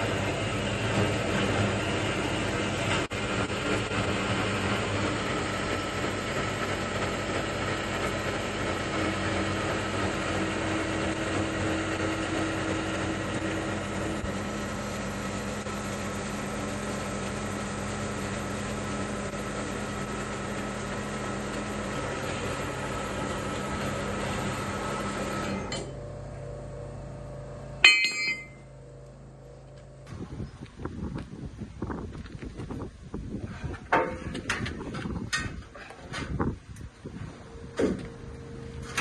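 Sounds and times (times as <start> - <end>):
machine running with low hum: 0.0 - 39.0.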